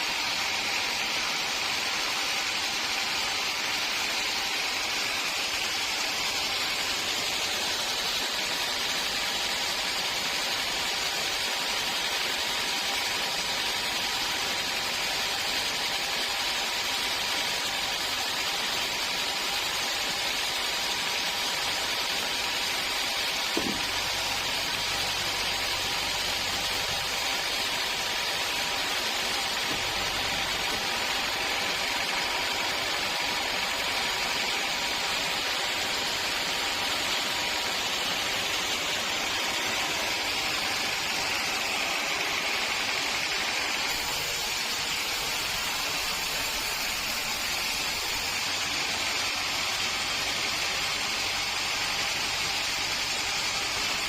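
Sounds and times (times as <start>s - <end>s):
sawmill machinery hiss and hum: 0.0s - 54.0s.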